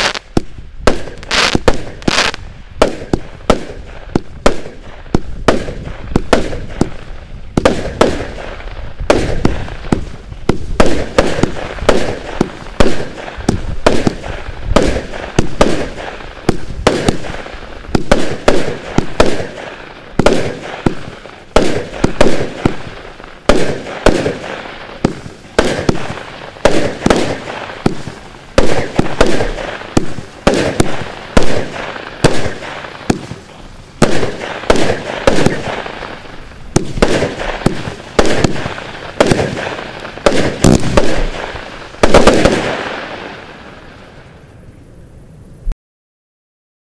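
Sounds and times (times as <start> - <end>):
firework shots firing: 0.0 - 44.4
firework star bursts: 0.0 - 45.7.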